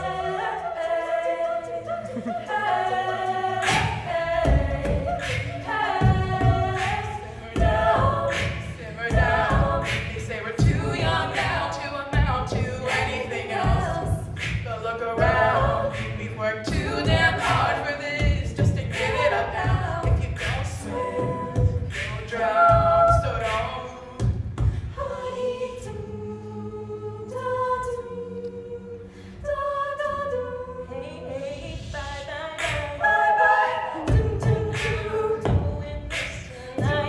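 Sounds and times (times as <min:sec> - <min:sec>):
vocal-percussion beat: 0:00.0 - 0:26.1, 0:31.3 - 0:37.0
women singing in close harmony: 0:00.0 - 0:37.0.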